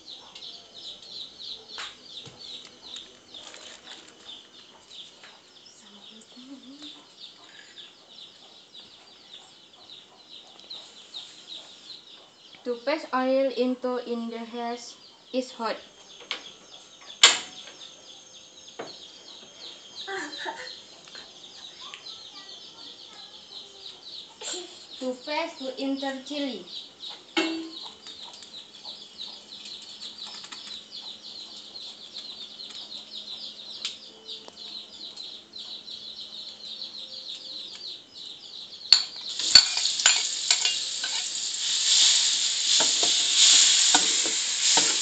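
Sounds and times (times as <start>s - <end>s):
chickens clucking: 0.0s - 13.4s, 15.1s - 36.6s, 39.0s - 45.0s
chicks peeping: 0.0s - 45.0s.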